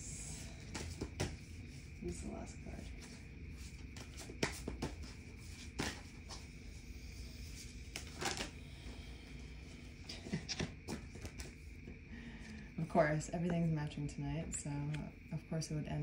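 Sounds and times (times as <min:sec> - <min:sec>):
faint high-pitched hum: 0:00.0 - 0:16.0.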